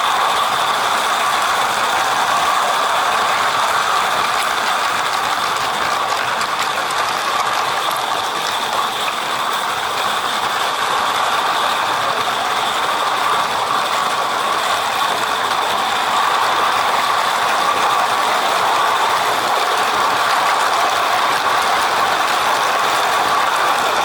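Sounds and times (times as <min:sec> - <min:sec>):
model train wheels clattering on track: 0:00.0 - 0:24.0.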